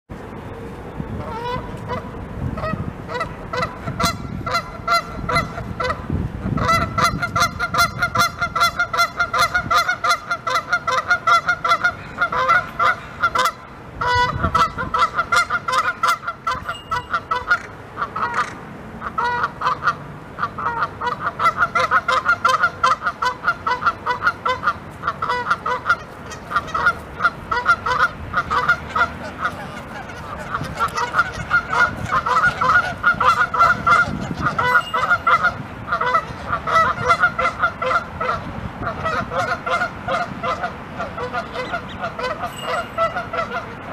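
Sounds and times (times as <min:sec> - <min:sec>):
geese honking: 0:01.2 - 0:43.9.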